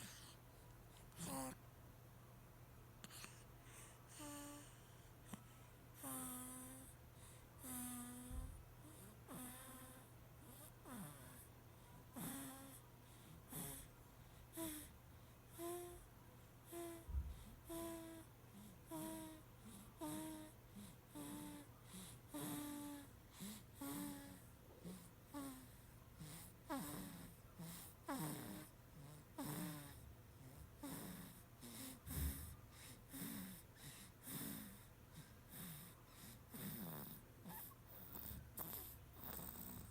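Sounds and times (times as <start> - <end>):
baby snoring: 0.0 - 0.4, 1.2 - 1.6, 3.0 - 5.4, 6.0 - 11.5, 12.1 - 13.9, 14.5 - 14.9, 15.5 - 39.9
steady low hum: 0.0 - 39.9.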